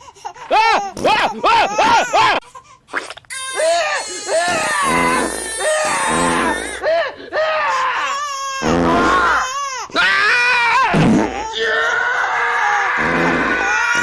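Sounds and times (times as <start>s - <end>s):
baby crying loudly: 0.4s - 2.4s, 3.3s - 14.0s
baby screaming: 0.4s - 2.4s, 3.3s - 14.0s.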